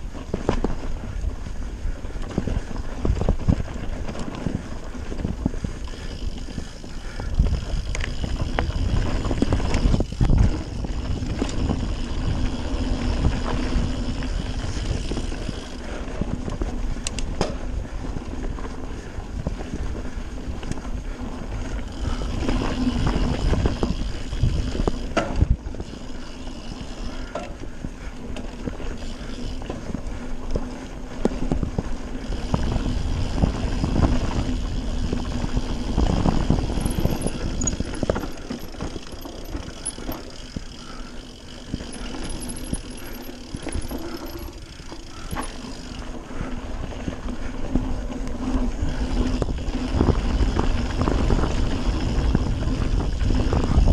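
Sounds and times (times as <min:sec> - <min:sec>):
wind buffeting microphone: 0:00.0 - 0:30.6, 0:31.3 - 0:53.9
bike drivetrain rattle: 0:00.0 - 0:53.9
bike tyre noise on dirt: 0:00.0 - 0:53.9.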